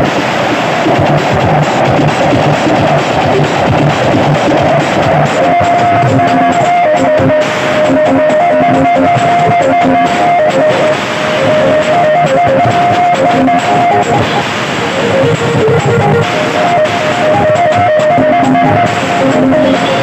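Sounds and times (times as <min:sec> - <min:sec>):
loud music through small speakers: 0:00.0 - 0:20.0.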